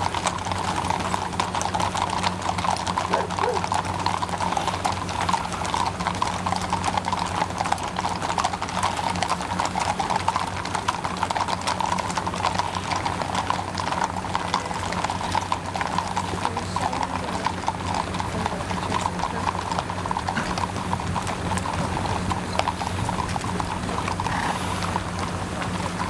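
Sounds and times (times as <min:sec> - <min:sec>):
horse hooves clip-clopping on asphalt: 0:00.0 - 0:26.0.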